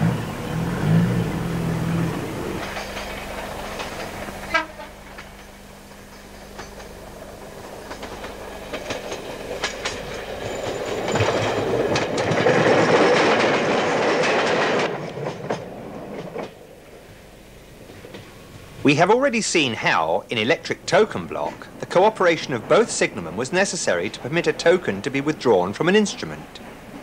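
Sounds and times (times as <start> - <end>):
train wheels clicking over rail joints: 0.0 - 27.0.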